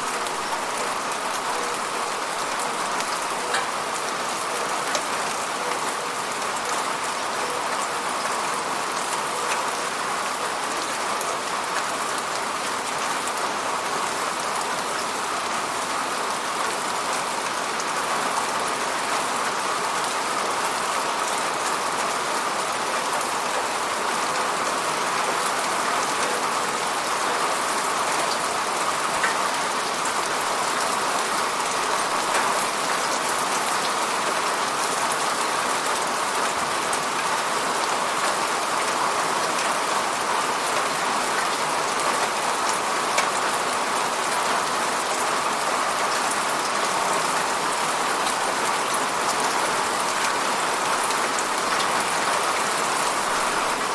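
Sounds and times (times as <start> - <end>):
steady falling rain: 0.0 - 53.9.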